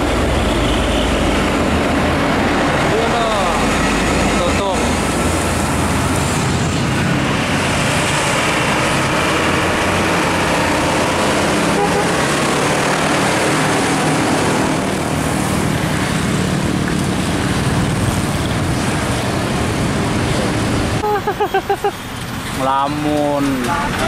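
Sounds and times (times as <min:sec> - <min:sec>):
motorcycle passing: 0:00.0 - 0:21.0
cars passing: 0:00.0 - 0:24.0
truck diesel engine passing: 0:00.0 - 0:24.0.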